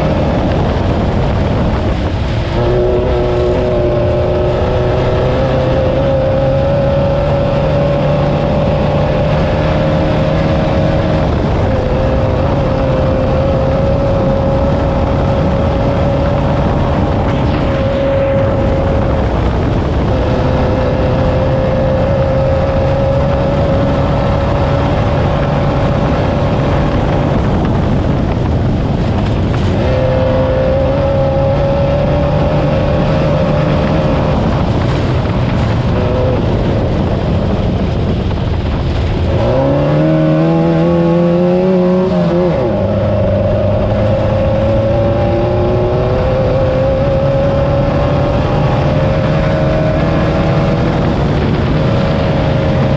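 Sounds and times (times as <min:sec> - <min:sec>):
race car engine running hard: 0:00.0 - 0:52.9.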